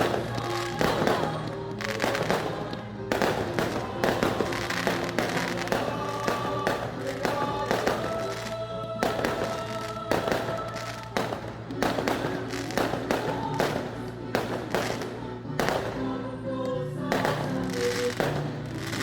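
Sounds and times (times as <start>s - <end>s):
fireworks bangs and crackles: 0.0s - 16.2s, 17.1s - 19.0s
music with sung melody: 0.0s - 19.0s.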